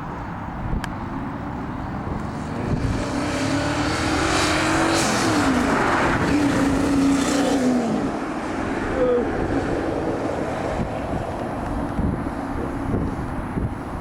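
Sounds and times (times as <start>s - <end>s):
loud wind noise: 0.0s - 14.0s
car engine accelerating hard: 2.0s - 13.4s.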